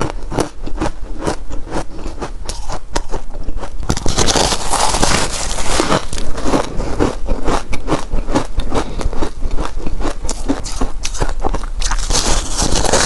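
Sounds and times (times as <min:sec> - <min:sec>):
crunchy chewing of shaved ice: 0:00.0 - 0:13.0.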